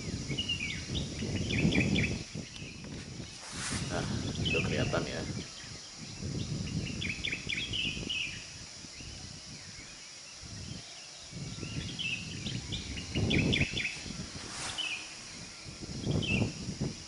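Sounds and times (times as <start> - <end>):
small birds chirping: 0.0 - 17.0
steady high hiss: 0.0 - 17.0.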